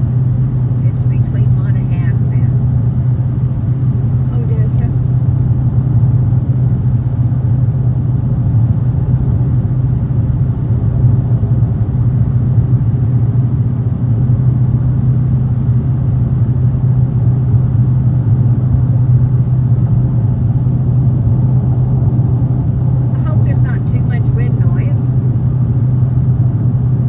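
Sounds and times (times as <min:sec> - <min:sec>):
car engine and exhaust drone: 0:00.0 - 0:27.0.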